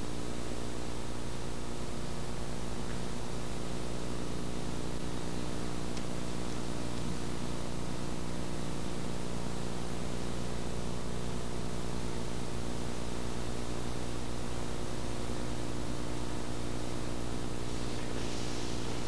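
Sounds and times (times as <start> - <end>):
low electrical hum: 0.0 - 19.0
steady hiss: 0.0 - 19.0.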